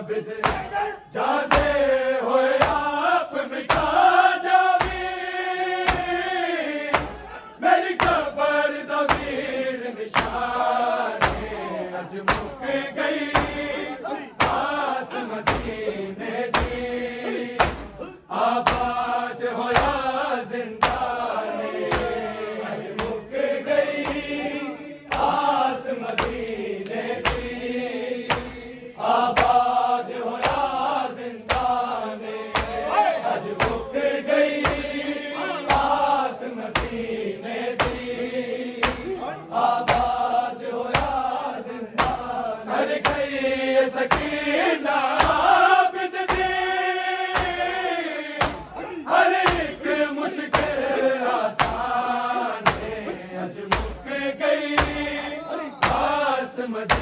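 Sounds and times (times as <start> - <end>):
group chanting a lament: 0.0 - 57.0
rhythmic chest-beating slaps: 0.0 - 57.0.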